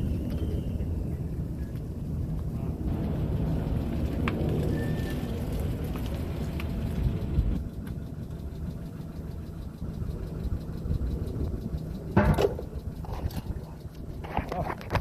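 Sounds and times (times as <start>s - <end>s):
vehicle engine idling low: 0.0s - 15.0s.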